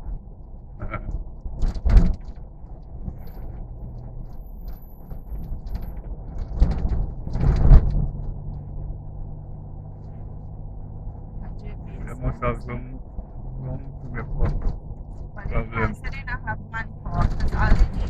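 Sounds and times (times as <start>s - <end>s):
truck cab rumble: 0.0s - 18.0s.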